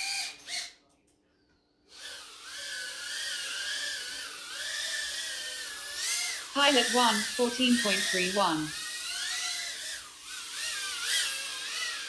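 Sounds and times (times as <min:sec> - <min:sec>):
drone motors whining: 0:01.9 - 0:12.0.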